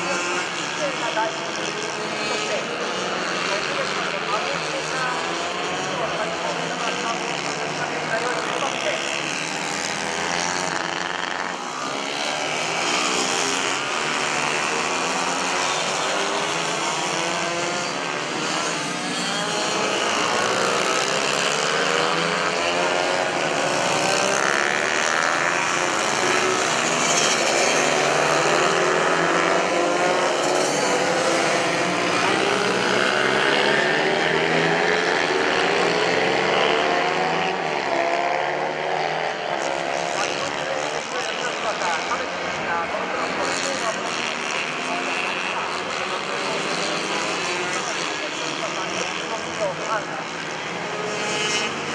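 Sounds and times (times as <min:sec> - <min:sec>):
mini-bike engines racing: 0:00.0 - 0:51.9.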